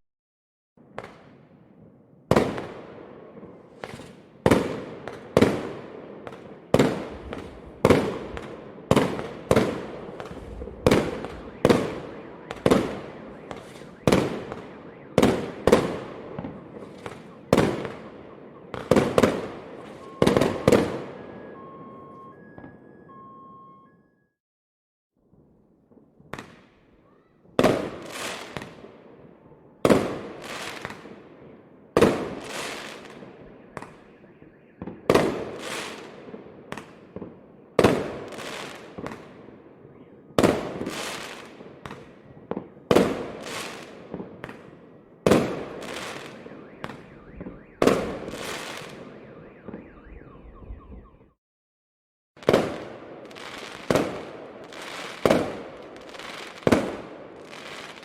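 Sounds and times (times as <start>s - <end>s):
fireworks bursting with crackle: 0.9s - 21.6s, 25.9s - 29.0s, 29.8s - 31.4s, 32.0s - 39.5s, 40.4s - 49.8s, 52.4s - 58.0s.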